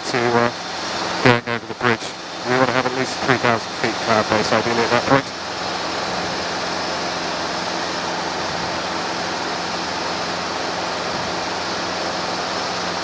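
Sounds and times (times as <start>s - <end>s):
helicopter engine and rotor rush: 0.0s - 13.0s
low hum: 0.0s - 13.0s.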